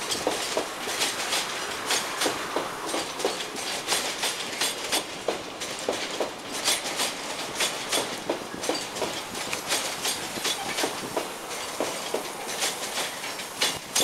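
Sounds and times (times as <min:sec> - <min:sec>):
continuous train rumble: 0:00.0 - 0:14.0
train wheels clickety-clack: 0:00.0 - 0:14.0.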